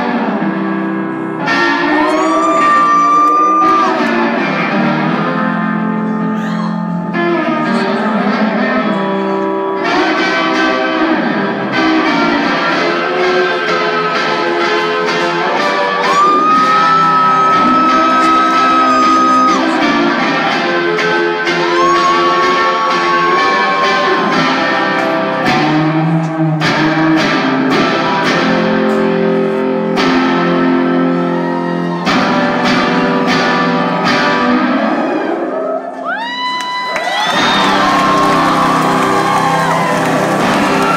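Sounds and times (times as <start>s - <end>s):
live rock band playing: 0.0s - 35.6s, 37.4s - 40.9s
electric guitar: 0.0s - 40.9s.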